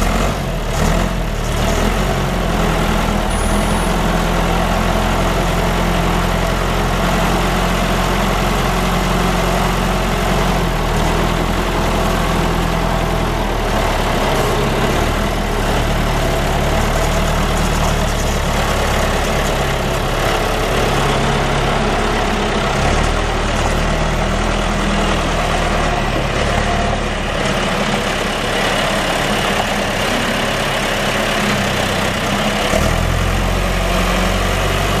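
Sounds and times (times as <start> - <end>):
diesel backhoe engine running: 0.0 - 35.0.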